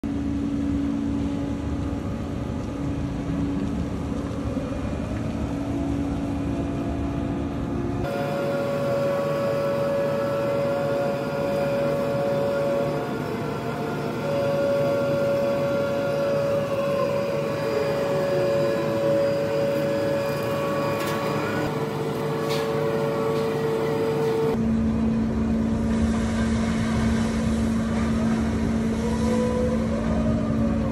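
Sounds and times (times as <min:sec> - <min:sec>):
crane motor whine: 0:00.0 - 0:30.9
low machinery hum: 0:00.0 - 0:30.9
rumbling machinery: 0:00.0 - 0:30.9.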